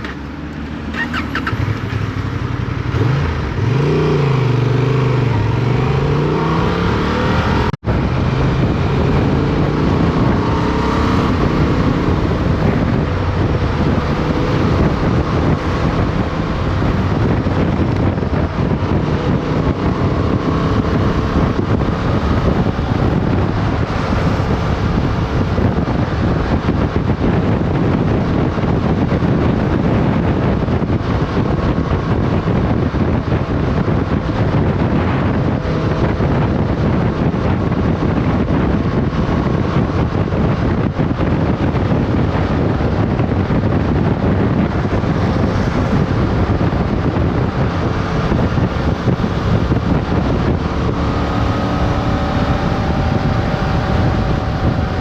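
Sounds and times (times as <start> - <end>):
motorcycle engine: 0.0 - 55.0
wind rushing over microphone: 0.0 - 55.0.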